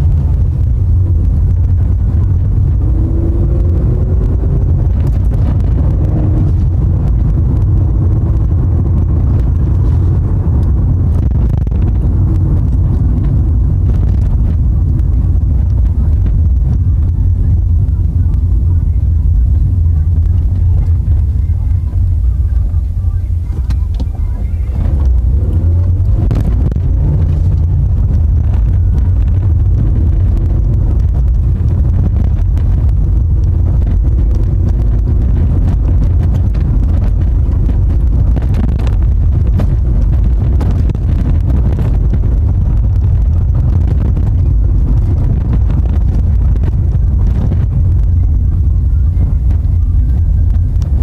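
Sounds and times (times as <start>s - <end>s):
car engine and tyre rumble: 0.0s - 51.0s.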